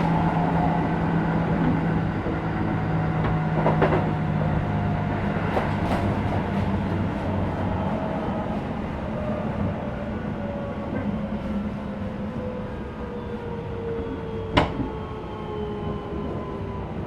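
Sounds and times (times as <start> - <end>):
wheel and rail noise: 0.0 - 14.9.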